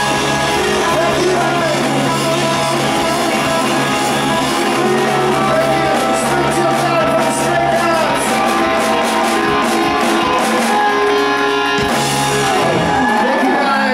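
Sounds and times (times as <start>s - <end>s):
drums with cymbal hits: 0.0s - 13.2s
electric guitars: 0.0s - 13.9s
person singing: 0.0s - 13.9s.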